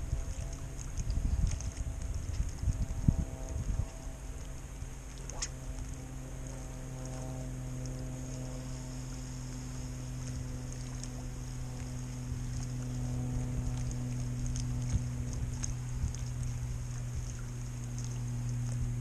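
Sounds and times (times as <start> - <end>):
low motor drone: 0.0 - 19.0.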